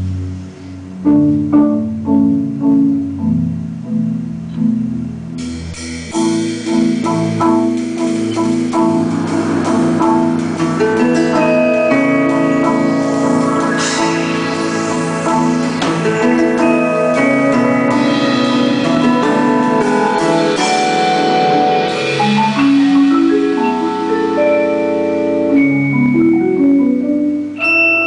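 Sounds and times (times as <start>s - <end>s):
drum kit: 1.0s - 28.0s
marimbas playing: 1.0s - 28.0s.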